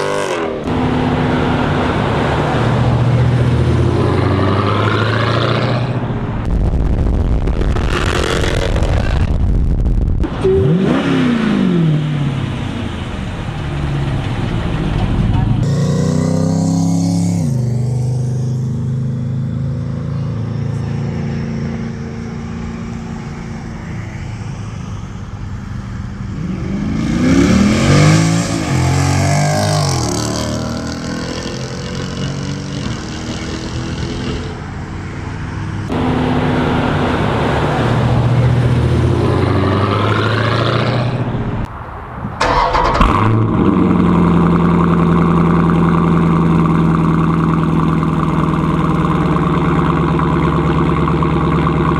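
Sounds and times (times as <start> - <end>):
car engine revving: 0.0 - 9.6, 10.2 - 23.8, 26.4 - 41.7, 42.4 - 51.9.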